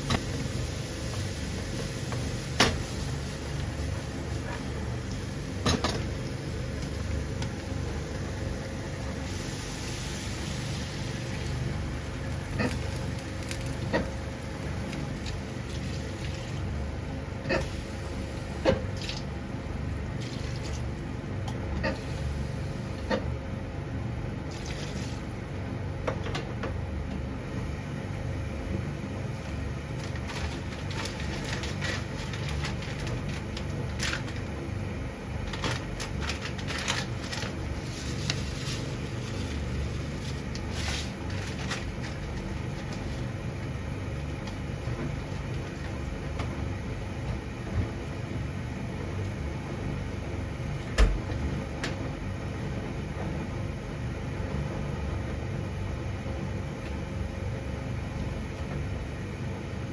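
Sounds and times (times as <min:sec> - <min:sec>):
liquid boiling rumble: 0:00.0 - 0:59.9.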